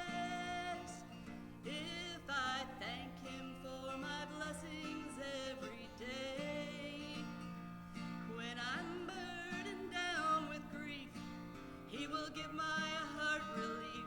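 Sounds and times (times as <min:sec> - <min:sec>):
plucked acoustic guitar: 0:00.0 - 0:14.0.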